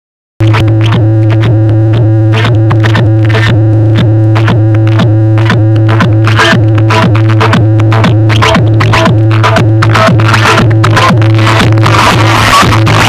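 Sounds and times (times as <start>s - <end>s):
loud electronic dance music: 0.4s - 13.0s.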